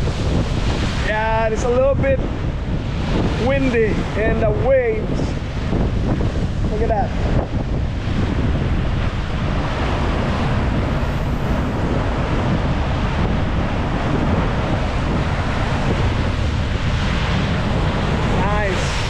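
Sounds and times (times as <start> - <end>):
water rushing and splashing: 0.0 - 19.0
wind buffeting the microphone: 0.0 - 19.0.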